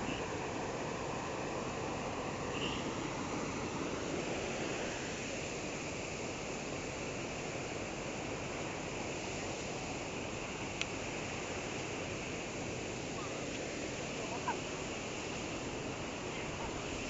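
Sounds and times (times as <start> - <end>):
water rushing over weir: 0.0 - 17.0.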